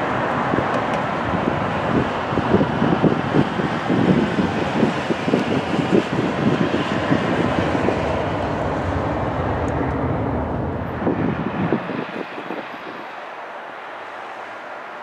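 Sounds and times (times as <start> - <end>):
jet engines rumbling: 0.0 - 14.7.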